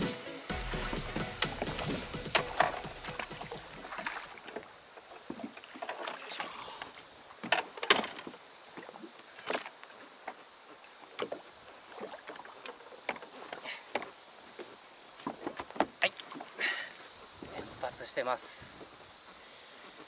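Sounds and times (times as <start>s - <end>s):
cicadas humming: 0.0s - 20.0s
fish splashing and knocking boat: 0.6s - 17.8s.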